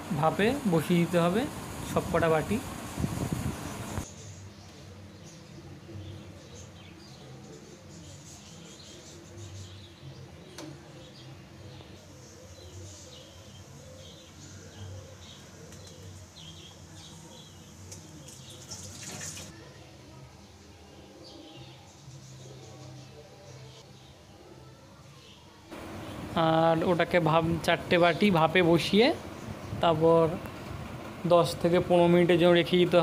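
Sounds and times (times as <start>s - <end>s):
small birds chirping: 3.4s - 19.6s, 20.4s - 33.0s.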